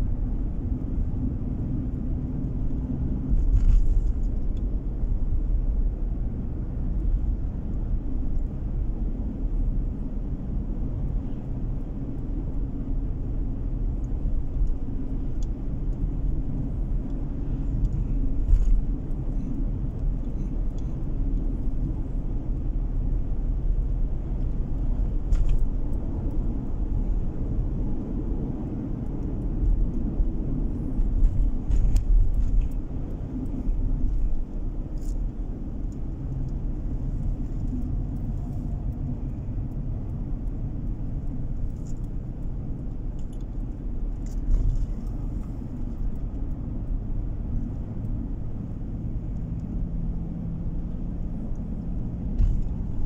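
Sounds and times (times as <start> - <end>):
tyres and engine rumble: 0.0 - 53.0.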